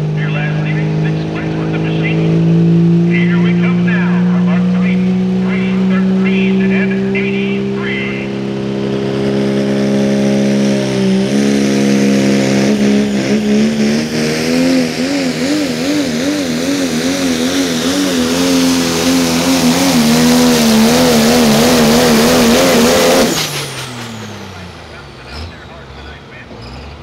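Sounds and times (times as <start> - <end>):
diesel truck engine under load: 0.0 - 27.0.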